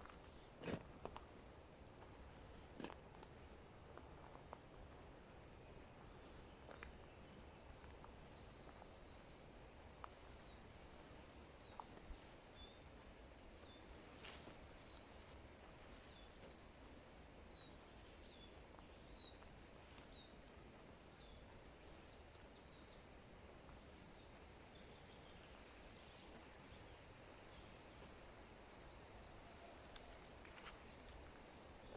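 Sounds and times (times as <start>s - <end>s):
faint forest ambience: 0.0s - 31.9s
songbird chirping: 2.3s - 31.9s.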